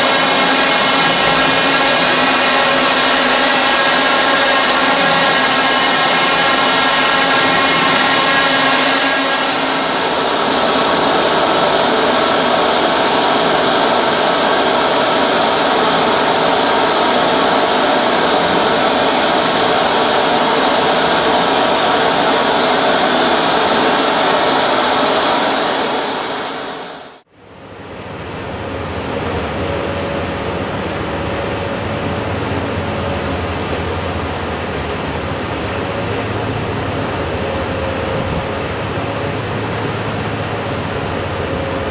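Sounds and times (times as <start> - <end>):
loud machinery drone: 0.0 - 41.9.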